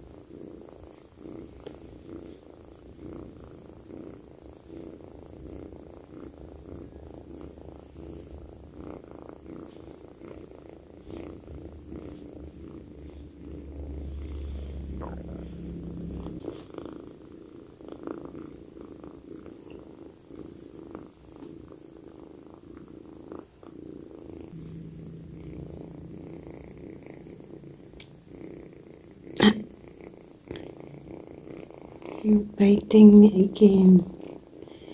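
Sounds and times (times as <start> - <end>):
kitten purring: 0.0 - 34.9.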